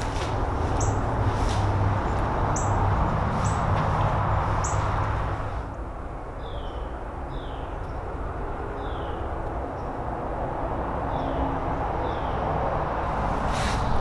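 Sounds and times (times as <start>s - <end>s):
small songbirds chirping: 0.0s - 10.1s, 11.0s - 12.6s
rushing noise with low rumble: 0.0s - 14.0s.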